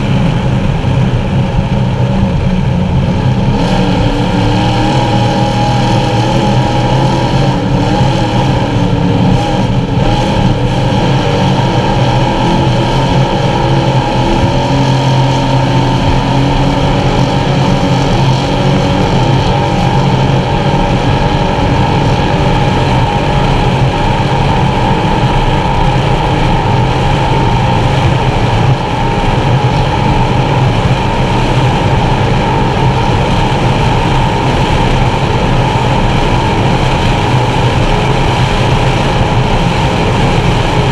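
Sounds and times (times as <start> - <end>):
boat engines at high speed: 0.0 - 40.9.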